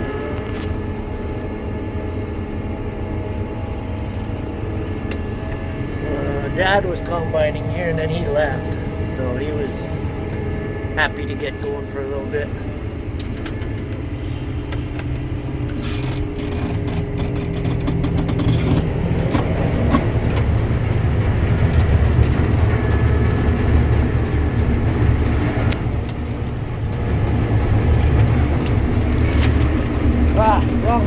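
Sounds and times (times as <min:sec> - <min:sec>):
combine harvester droning: 0:00.0 - 0:31.0.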